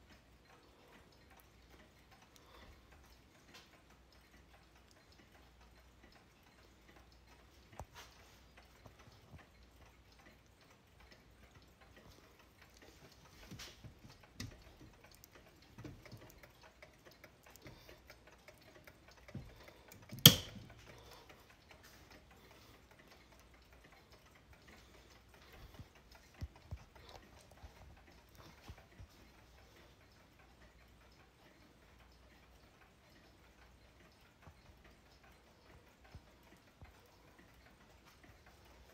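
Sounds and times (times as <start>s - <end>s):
clocks ticking: 0.0s - 38.9s.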